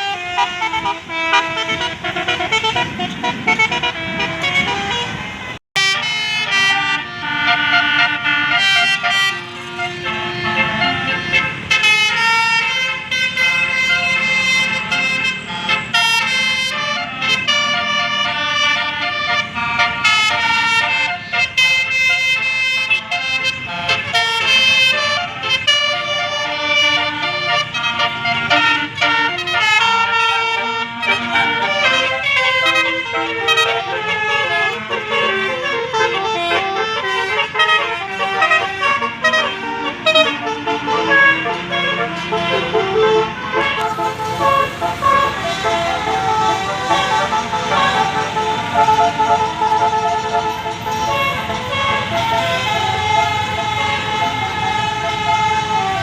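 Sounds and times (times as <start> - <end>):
multi-tone bus horn playing tunes: 0.0 - 56.0.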